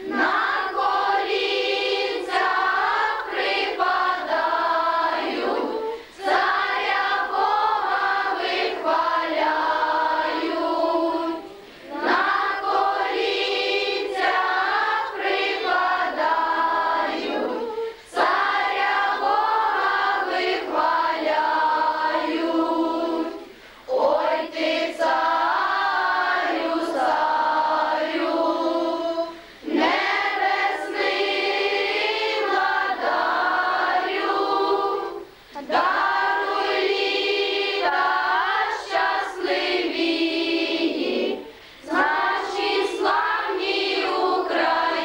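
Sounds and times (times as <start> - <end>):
children and woman singing: 0.0 - 45.0.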